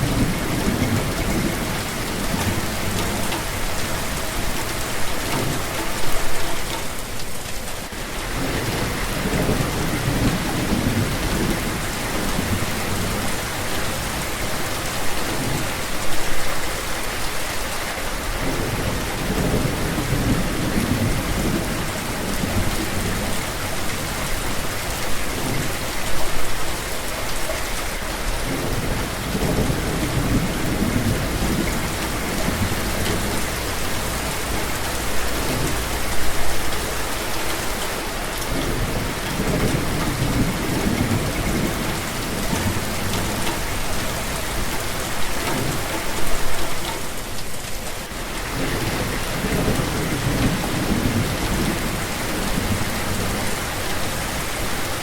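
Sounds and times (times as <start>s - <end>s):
rolling thunder rumbles: 0.0s - 6.8s, 8.0s - 15.8s, 18.3s - 25.8s, 28.3s - 37.5s, 38.3s - 46.6s, 48.4s - 55.0s
rain on a hard surface: 0.0s - 55.0s.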